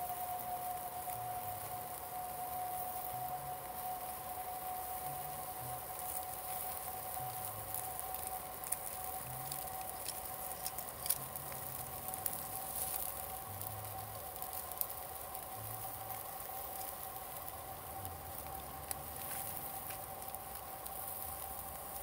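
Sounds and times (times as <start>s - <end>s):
faint steady tone: 0.0s - 22.0s
fire crackling: 0.0s - 22.0s
steady hiss: 0.0s - 22.0s.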